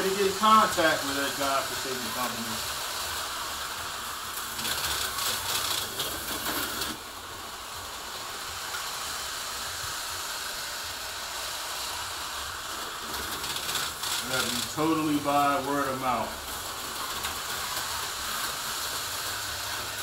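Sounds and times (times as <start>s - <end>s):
model train rattling on track: 0.0s - 20.0s.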